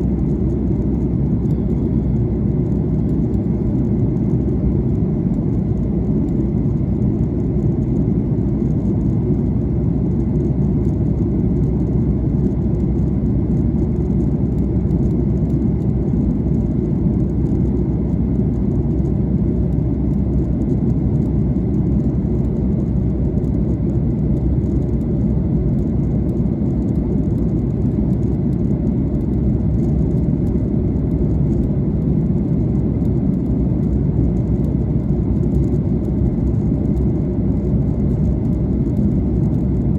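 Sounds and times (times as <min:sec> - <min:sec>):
airliner engines and airflow: 0:00.0 - 0:39.9.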